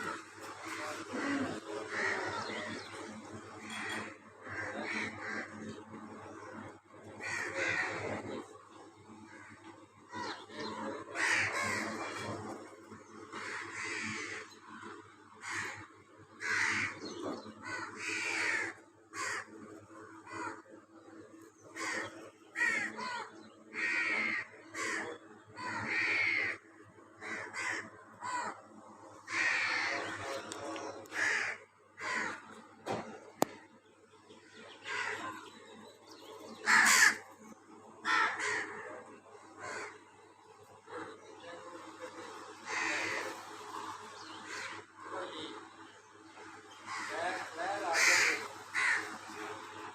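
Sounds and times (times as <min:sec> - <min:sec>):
birds calling: 0:00.0 - 0:49.9.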